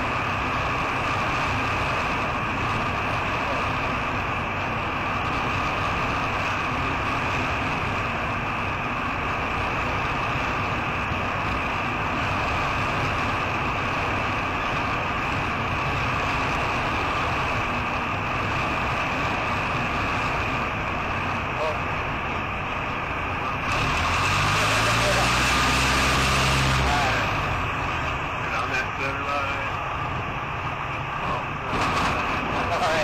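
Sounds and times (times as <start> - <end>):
small plane engine and propeller drone: 0.0 - 33.0.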